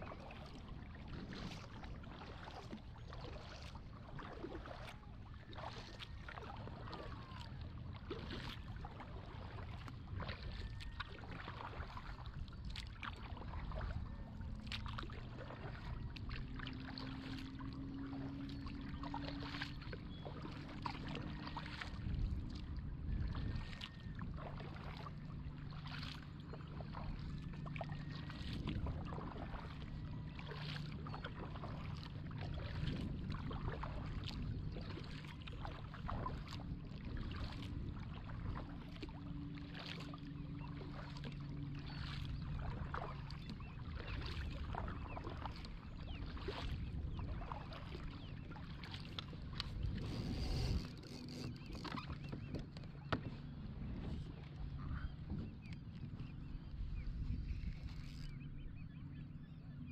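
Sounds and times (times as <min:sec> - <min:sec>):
paddle splashing water: 0:00.0 - 0:59.6
low rumble of water and wind: 0:00.0 - 0:59.9.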